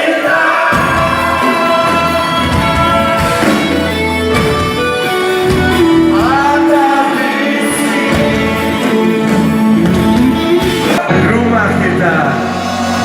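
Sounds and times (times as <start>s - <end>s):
person singing: 0.0s - 11.4s
live rock band: 0.0s - 13.0s.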